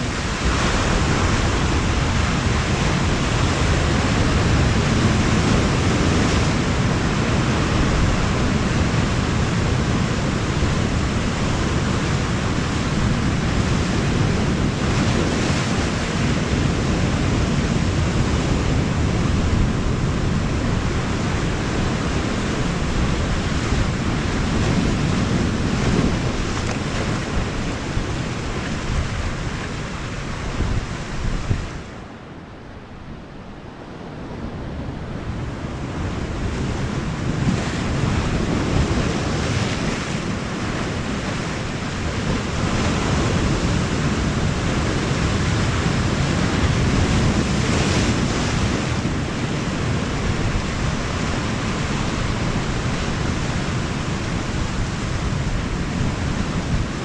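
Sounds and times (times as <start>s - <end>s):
surf washing against shore: 0.0s - 57.0s
wind buffeting microphone: 0.0s - 57.0s.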